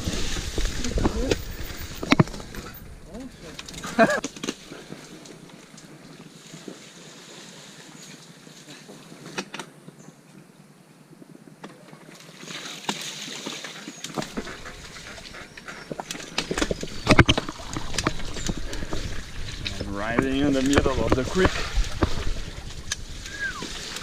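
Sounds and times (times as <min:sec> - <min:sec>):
bike tyres in water: 0:00.0 - 0:09.4, 0:11.7 - 0:24.0.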